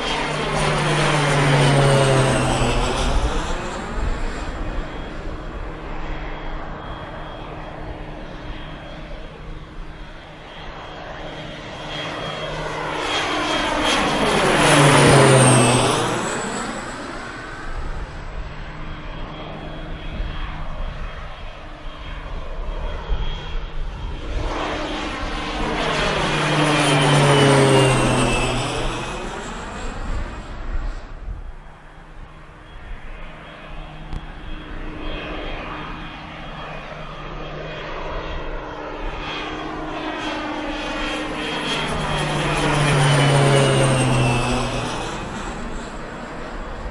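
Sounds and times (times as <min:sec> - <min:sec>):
turboprop planes passing overhead: 0:00.0 - 0:46.9.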